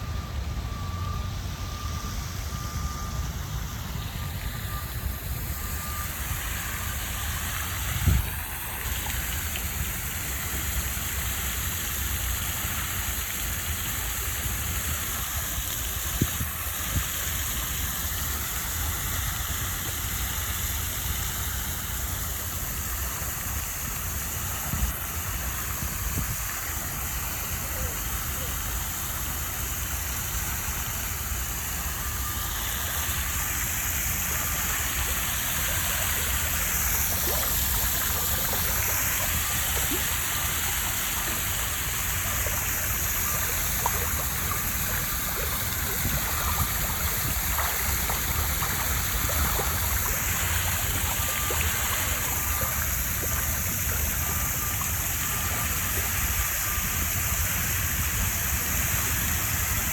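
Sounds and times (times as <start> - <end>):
running water rushing: 0.6 - 59.9.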